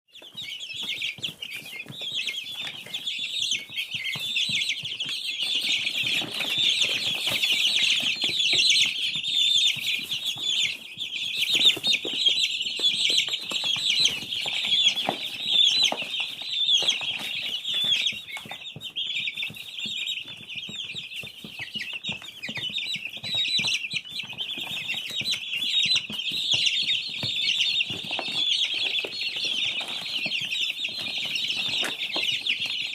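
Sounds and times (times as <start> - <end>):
baby chicks peeping: 0.1 - 32.9.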